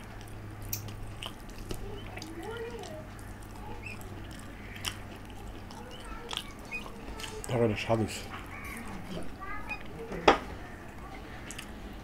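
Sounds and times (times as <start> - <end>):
wet chewing clicks: 0.0 - 10.0, 10.8 - 11.8
fingers squeezing food on steel plate: 0.0 - 11.7
low steady hum: 0.0 - 12.0.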